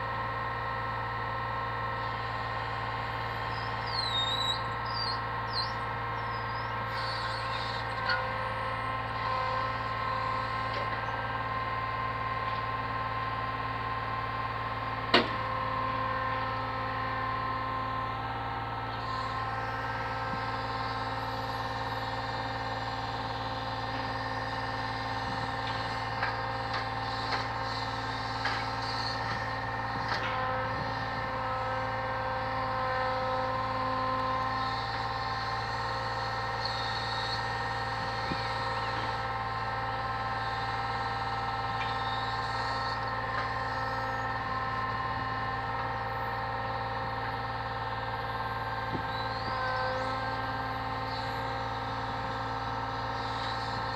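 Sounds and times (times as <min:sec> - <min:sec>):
hydraulic crane whine: 0:00.0 - 0:53.9
truck engine running: 0:00.0 - 0:53.9.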